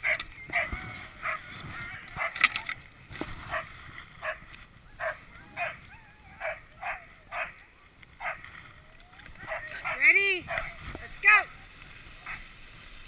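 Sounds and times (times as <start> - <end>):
sled dogs yipping and whining: 0.0 - 12.6
sled rushing on snow: 0.0 - 13.0.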